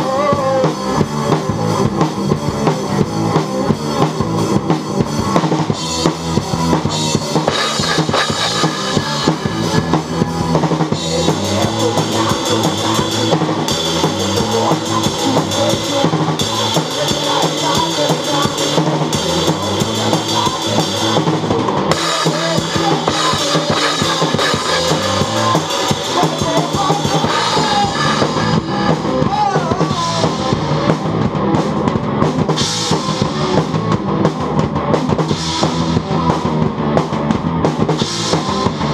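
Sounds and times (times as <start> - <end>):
drum kit played hard: 0.0 - 38.9
rock song with guitar and bass: 0.0 - 38.9.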